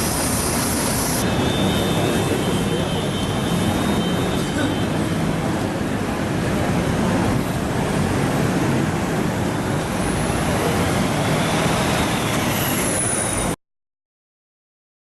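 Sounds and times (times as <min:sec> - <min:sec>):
city street traffic rumble: 0:00.0 - 0:13.6.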